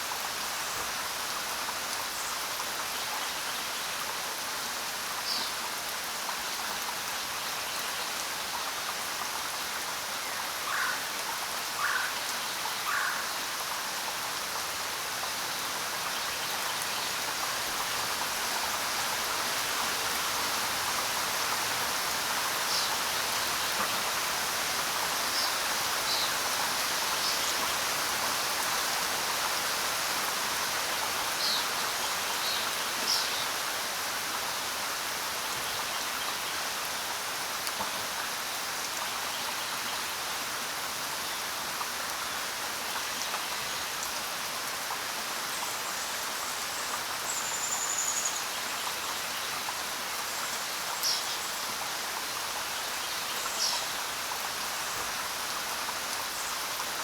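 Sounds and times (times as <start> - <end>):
rain falling on ground: 0.0 - 57.0.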